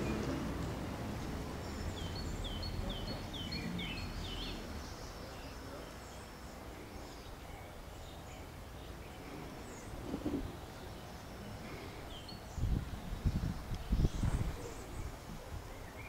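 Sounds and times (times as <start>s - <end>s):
low outdoor rumble: 0.0s - 16.0s
small bird singing: 0.0s - 16.0s.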